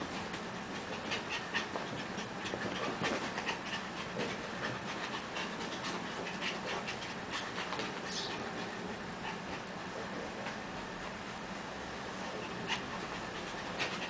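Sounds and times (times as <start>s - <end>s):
puppy paws scuffling on carpet: 0.0s - 11.4s
puppies panting: 0.0s - 14.0s.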